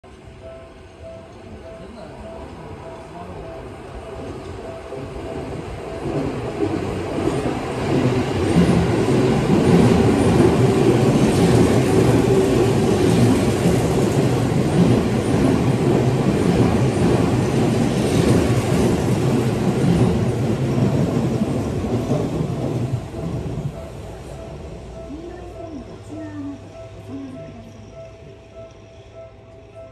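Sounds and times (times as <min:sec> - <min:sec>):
train wheels rumbling on rails: 0:00.1 - 0:29.9.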